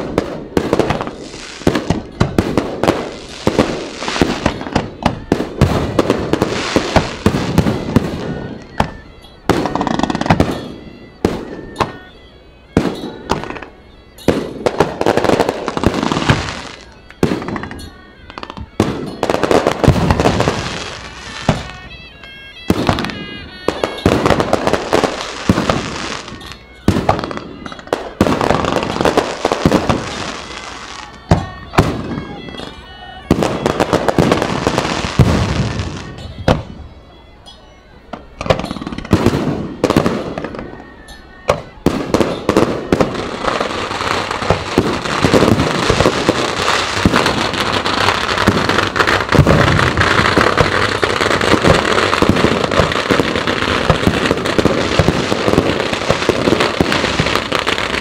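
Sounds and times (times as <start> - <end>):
fireworks bursting with loud bangs: 0.0 - 12.2, 12.8 - 22.0, 22.7 - 36.8, 38.1 - 58.0.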